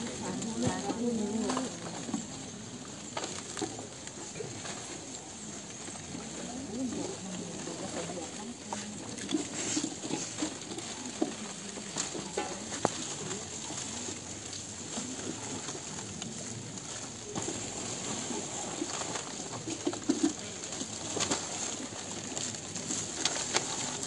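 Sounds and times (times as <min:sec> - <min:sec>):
dove cooing: 0:00.0 - 0:24.0
rustling and small knocks: 0:00.0 - 0:24.0.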